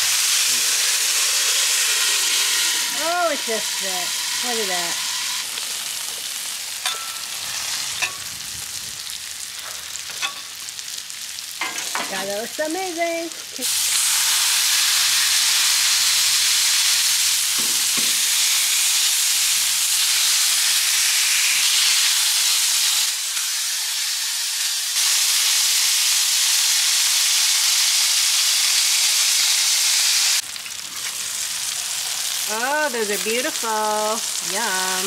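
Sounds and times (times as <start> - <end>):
burger patty sizzling on griddle: 0.0 - 35.0.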